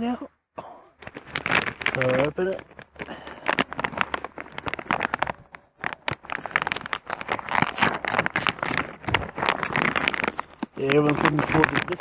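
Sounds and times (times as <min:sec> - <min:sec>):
dry biscuits rattling out: 0:01.0 - 0:12.0
packaging tearing and crinkling: 0:01.0 - 0:12.0.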